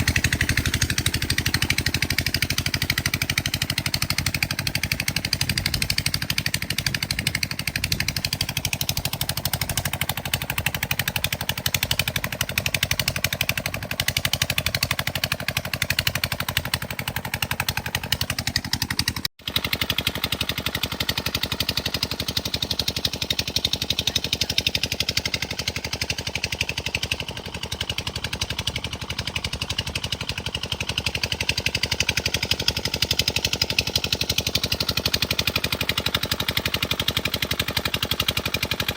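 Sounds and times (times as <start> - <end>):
engine-driven water pump running: 0.0 - 38.9.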